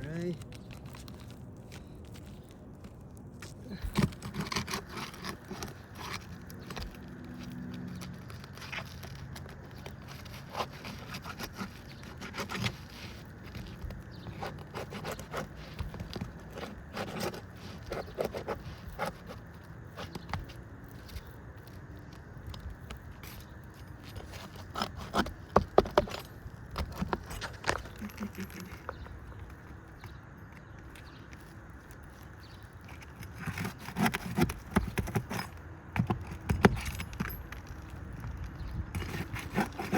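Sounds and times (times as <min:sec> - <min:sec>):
shingles scraping: 0:00.0 - 0:39.9.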